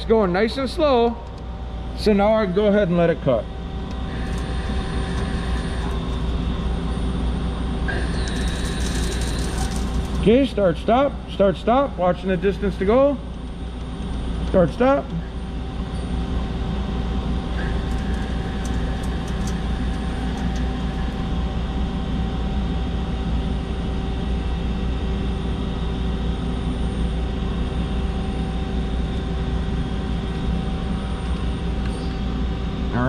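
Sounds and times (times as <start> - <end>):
lathe machine hum: 0.0 - 32.9.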